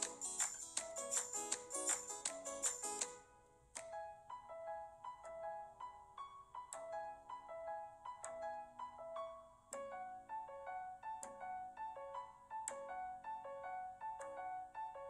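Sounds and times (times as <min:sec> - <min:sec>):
gentle keyboard melody: 0:00.0 - 0:15.0.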